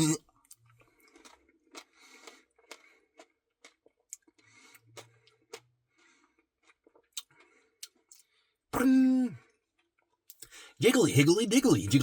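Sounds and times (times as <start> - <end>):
faint eating clicks and smacks: 0.1 - 8.7, 9.4 - 10.6.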